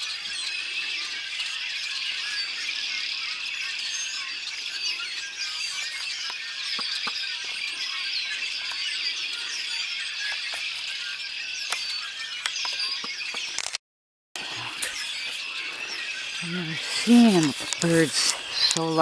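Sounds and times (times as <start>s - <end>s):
flock of birds calling: 0.0s - 13.5s, 14.4s - 19.0s.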